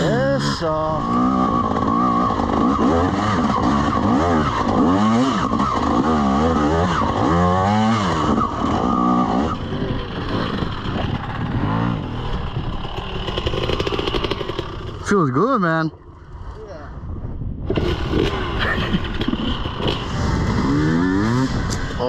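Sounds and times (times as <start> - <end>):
dirt bike engine revving: 0.0 - 16.6, 17.5 - 22.0.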